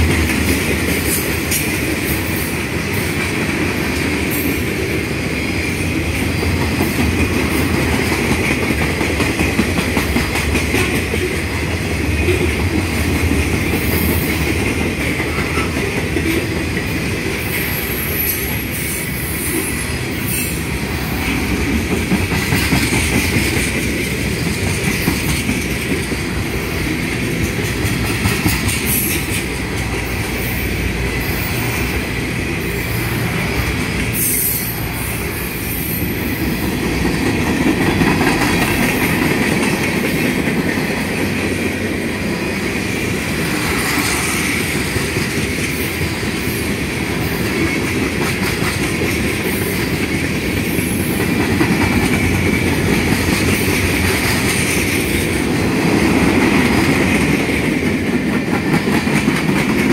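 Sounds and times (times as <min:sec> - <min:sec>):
freight train wheels rumbling: 0:00.0 - 0:59.9
high ringing of wheels on rail: 0:00.0 - 0:59.9.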